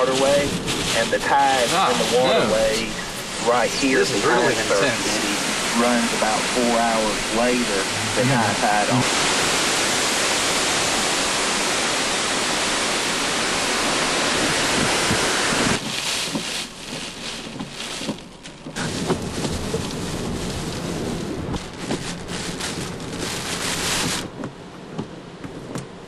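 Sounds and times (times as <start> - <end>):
rain pattering on car windows: 0.0 - 9.5, 11.8 - 26.0
car interior while moving: 0.0 - 26.0
hurricane wind and heavy rain: 0.0 - 26.0.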